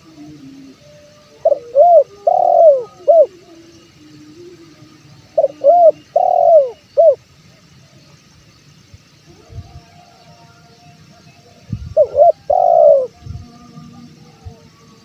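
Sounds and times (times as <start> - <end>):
dove cooing: 0.0 - 7.2, 9.3 - 15.0.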